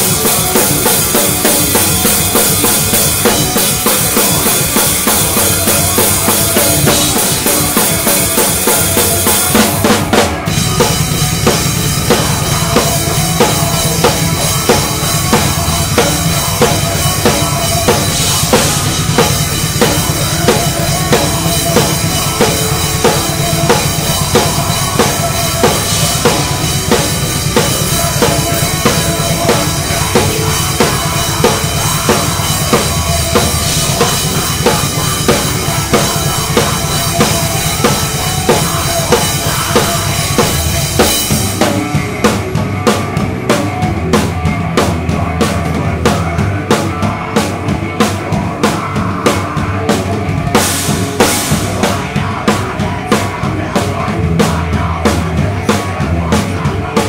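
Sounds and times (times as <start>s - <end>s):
drum kit played hard: 0.0s - 57.0s
live band playing: 0.0s - 57.0s.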